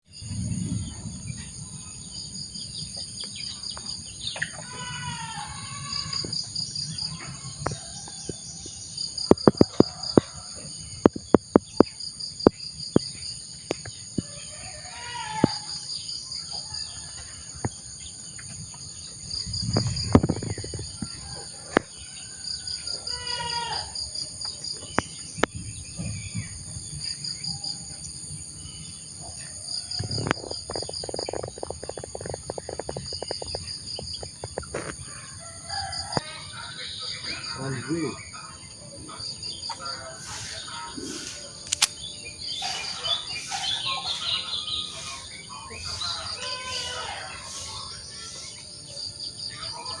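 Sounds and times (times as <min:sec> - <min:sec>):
insects shrilling: 0:00.1 - 0:25.4, 0:27.0 - 0:50.0
birds calling: 0:00.1 - 0:27.9, 0:28.5 - 0:50.0.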